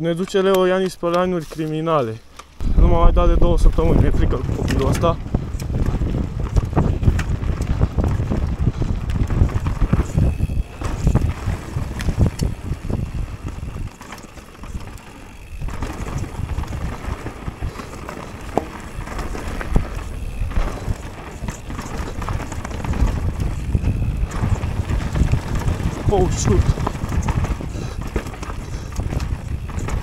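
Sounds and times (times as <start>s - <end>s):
bike clicks and rattles: 0.0s - 30.0s
tyres rumbling over dirt: 2.6s - 30.0s
wind buffeting microphone: 2.6s - 30.0s.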